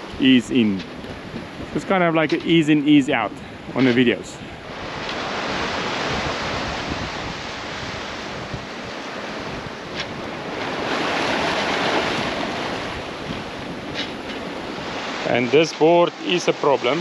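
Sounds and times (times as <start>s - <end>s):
wind on microphone: 0.0s - 15.3s
sea water rushing past hulls: 0.0s - 17.0s.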